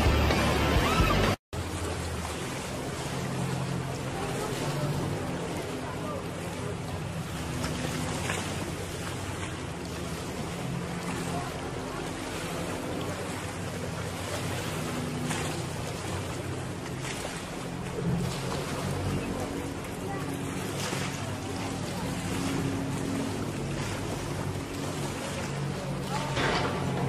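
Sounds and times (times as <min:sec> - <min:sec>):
boat motor humming: 0:00.0 - 0:27.0.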